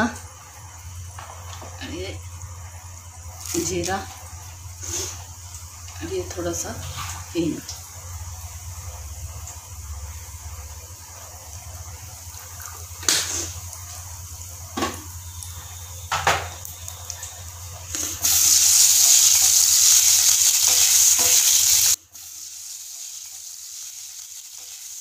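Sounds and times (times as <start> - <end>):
spices sizzling in hot oil: 0.0 - 25.0.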